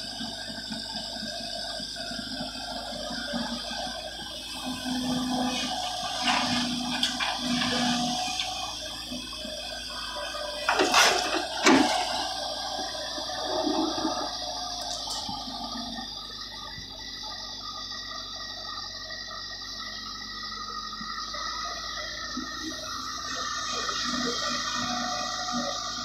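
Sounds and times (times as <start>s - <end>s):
excavator engine and hydraulics droning: 0.0s - 26.0s.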